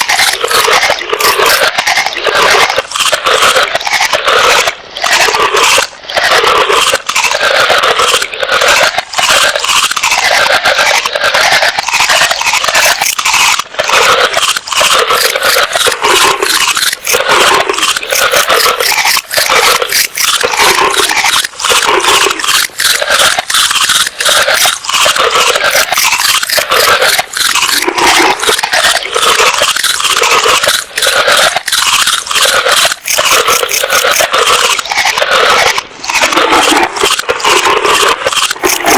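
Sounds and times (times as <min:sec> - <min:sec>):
animal crunching food: 0:00.0 - 0:38.9.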